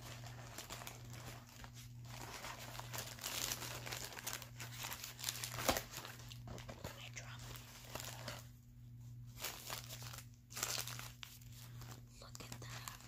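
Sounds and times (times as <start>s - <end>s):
paper wrapper crinkling: 0.0s - 8.6s, 9.3s - 13.0s
faint low hum: 0.0s - 13.0s.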